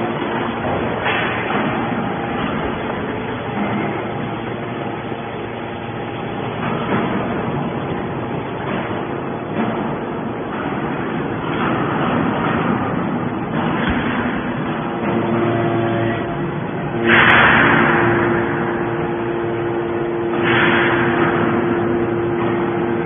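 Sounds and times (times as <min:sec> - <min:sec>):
dense mechanical noise of baler ram: 0:00.0 - 0:23.0
hydraulic motor and pump hum: 0:00.0 - 0:23.0.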